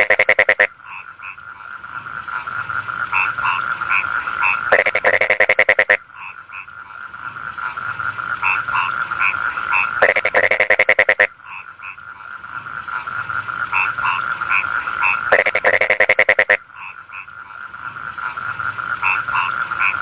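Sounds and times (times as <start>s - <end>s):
frogs calling in chorus: 0.0s - 20.0s
loud pulsing frog call: 0.0s - 20.0s.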